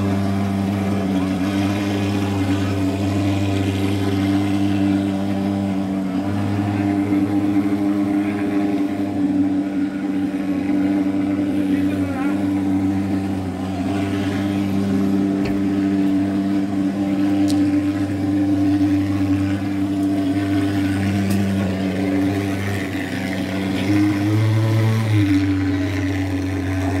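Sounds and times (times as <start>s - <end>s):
smoke fogging machine droning: 0.0s - 27.0s.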